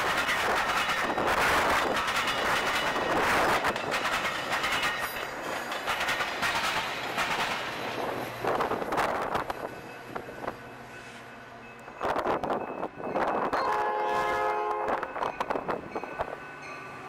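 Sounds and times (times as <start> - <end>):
train rolling on rails: 0.0 - 17.0.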